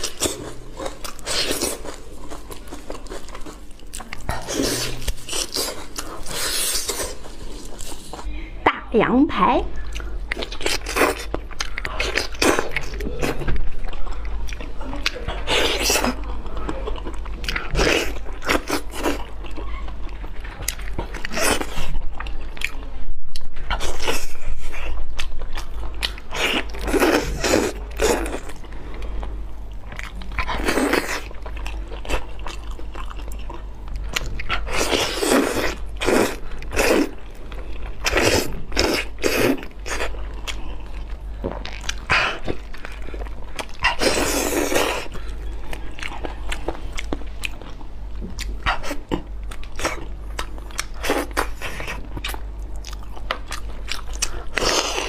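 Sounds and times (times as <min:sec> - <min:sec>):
person chewing wetly: 0:00.0 - 0:08.3, 0:09.8 - 0:55.0
steady low hum: 0:00.0 - 0:55.0.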